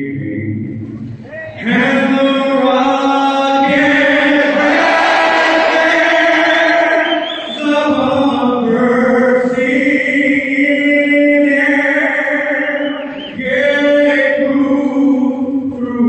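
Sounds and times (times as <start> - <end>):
man singing into a microphone: 0.0 - 4.7, 5.4 - 16.0.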